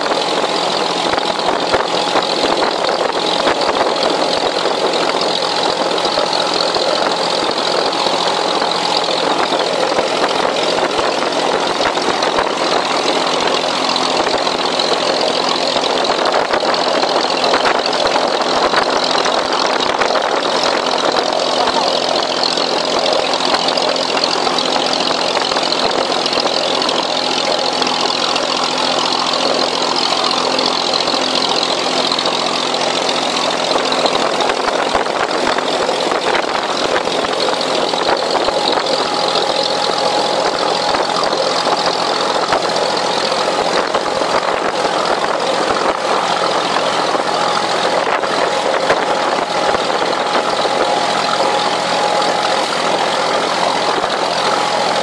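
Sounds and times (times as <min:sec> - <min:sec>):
boat diesel engine running: 0:00.0 - 0:55.0
water rushing along hull: 0:00.0 - 0:55.0.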